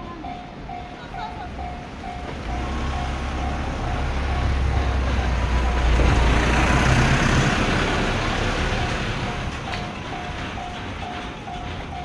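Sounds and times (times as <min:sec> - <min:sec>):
railroad crossing alarm bell: 0:00.0 - 0:12.0
train wheel and rail noise: 0:00.0 - 0:12.0.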